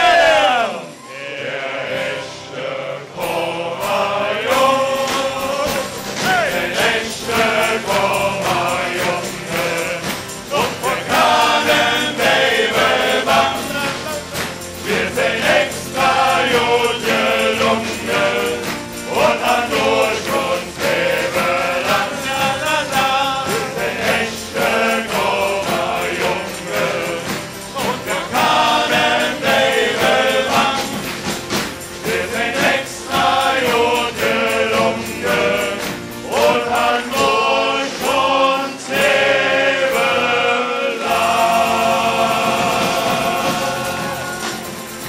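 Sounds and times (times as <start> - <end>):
acoustic guitars: 0.0 - 45.0
men singing in chorus: 0.0 - 45.0
crowd clapping along: 4.5 - 40.1, 41.0 - 45.0.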